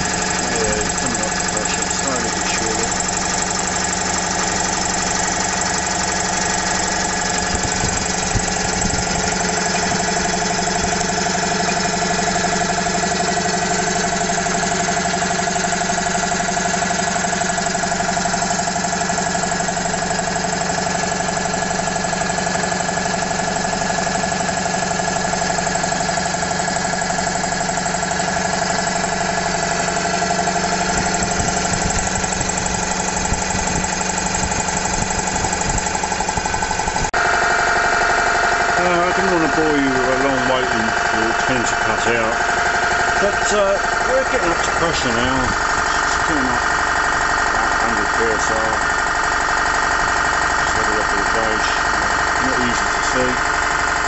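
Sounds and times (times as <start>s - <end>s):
air compressor pulsing: 0.0s - 54.0s.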